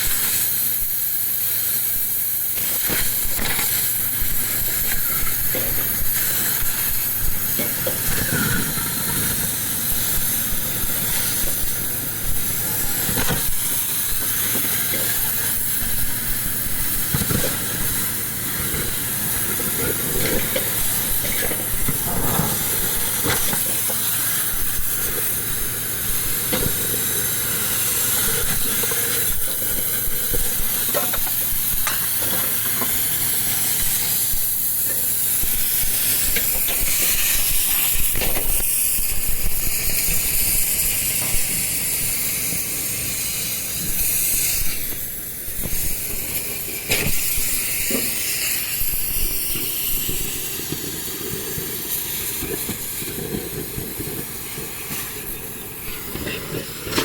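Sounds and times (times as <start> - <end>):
loud steady hiss: 0.0 - 57.0.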